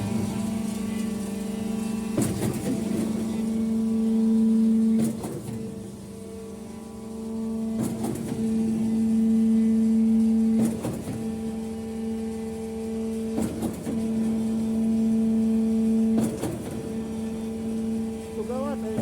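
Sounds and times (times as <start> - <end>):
pump motor humming: 0.0 - 19.0.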